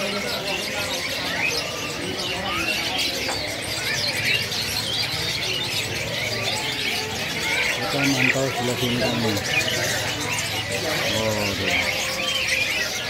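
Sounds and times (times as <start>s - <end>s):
birds chirping and twittering: 0.0s - 13.0s
doves cooing: 0.0s - 13.0s.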